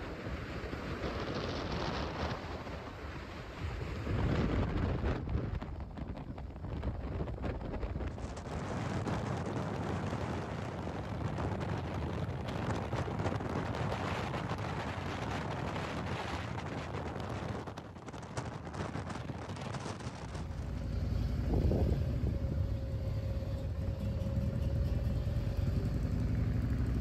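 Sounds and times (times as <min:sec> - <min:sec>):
motorcycle engine rumble: 0:00.0 - 0:27.0
wind buffeting microphone: 0:00.0 - 0:27.0.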